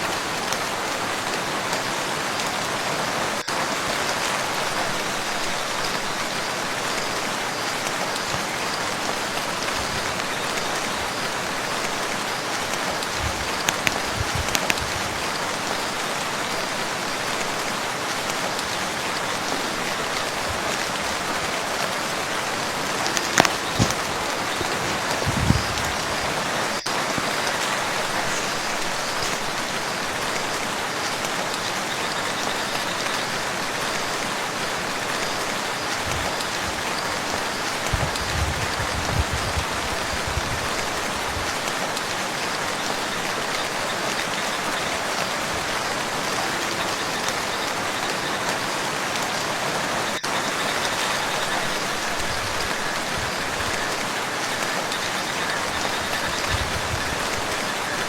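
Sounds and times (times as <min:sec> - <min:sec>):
rain pattering on water: 0:00.0 - 0:58.0.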